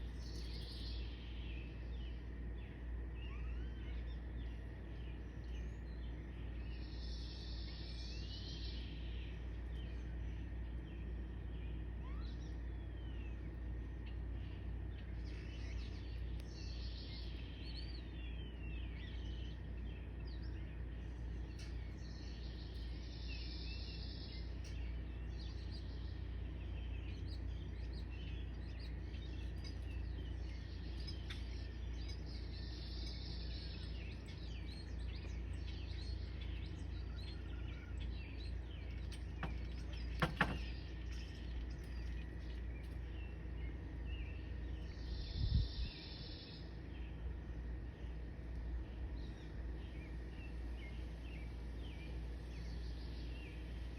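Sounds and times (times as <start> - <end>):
birds chirping and calling: 0.0 - 53.9
steady low rumble: 0.0 - 53.9.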